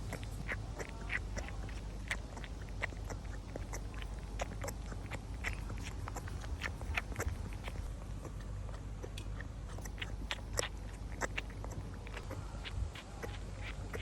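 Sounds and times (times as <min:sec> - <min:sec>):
animal hiccups: 0:00.0 - 0:14.0
wet suckling clicks and smacks: 0:00.0 - 0:14.0.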